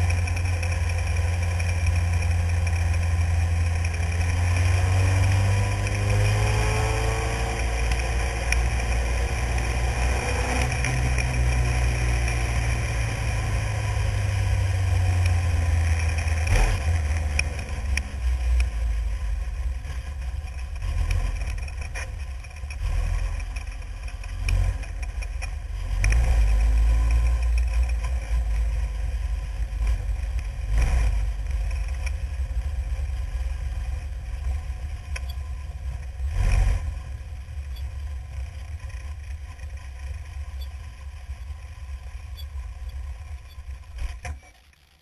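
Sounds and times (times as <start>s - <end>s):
race car engine at low revs: 0.0s - 45.0s.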